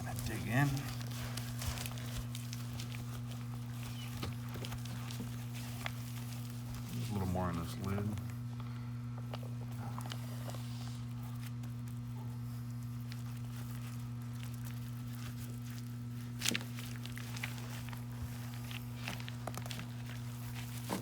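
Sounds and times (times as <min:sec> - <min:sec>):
hands kneading felt sleeve: 0:00.0 - 0:21.0
low electrical hum: 0:00.0 - 0:21.0.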